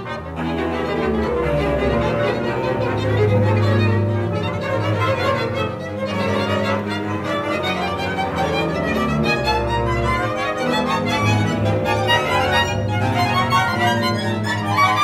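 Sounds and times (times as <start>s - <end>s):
string orchestra held notes: 0.0s - 15.0s.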